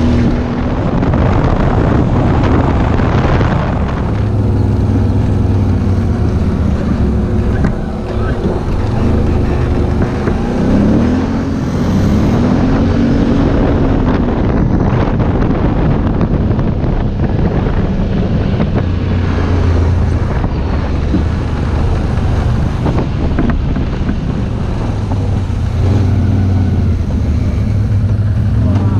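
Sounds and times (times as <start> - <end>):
quad bike engine running: 0.0 - 28.9
wind buffeting microphone: 0.0 - 28.9.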